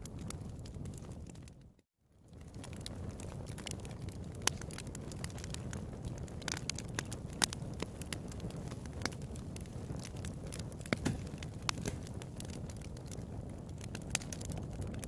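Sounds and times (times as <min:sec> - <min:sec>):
sharp pops from fire: 0:00.0 - 0:15.0
wood fire crackling: 0:00.0 - 0:15.0.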